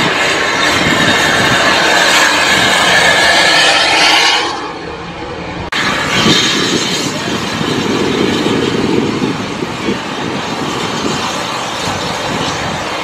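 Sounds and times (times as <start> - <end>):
steam train rumbling on rails: 0.0 - 13.0.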